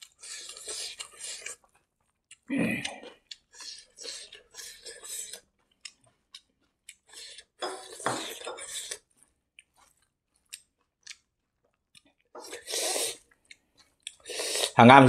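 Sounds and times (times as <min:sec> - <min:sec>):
chewing: 0:00.0 - 0:14.8.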